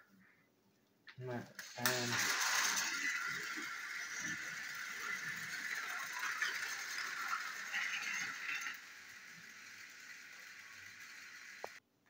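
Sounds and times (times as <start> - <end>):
toy train motors whirring: 1.5 - 11.8.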